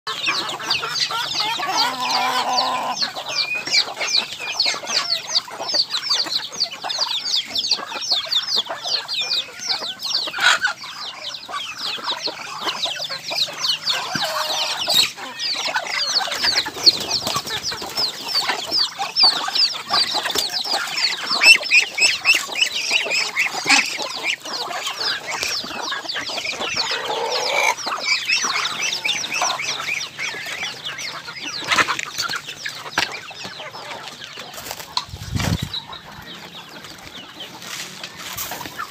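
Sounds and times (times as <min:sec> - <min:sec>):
chickens clucking: 0:00.1 - 0:38.9.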